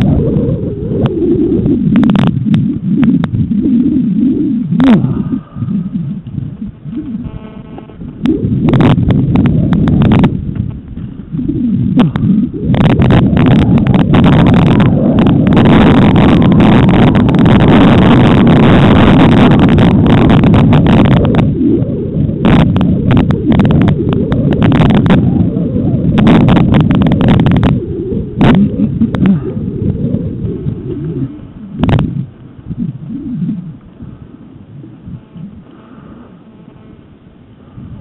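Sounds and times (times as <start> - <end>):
wind rumble on camera microphone: 0.0 - 38.0.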